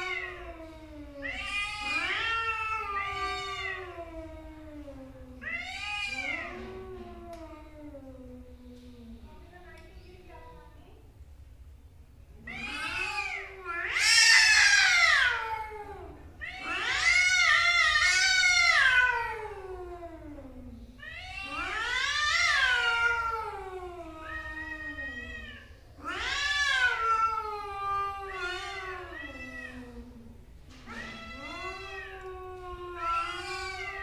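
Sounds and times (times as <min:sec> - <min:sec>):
cats yowling in a fight: 0:00.0 - 0:08.4, 0:12.4 - 0:34.0.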